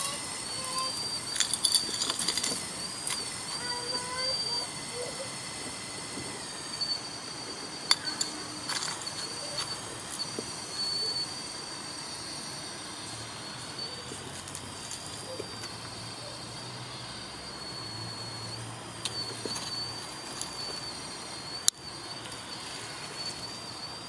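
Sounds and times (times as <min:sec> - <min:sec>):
small electric motors whining: 0:00.0 - 0:24.0.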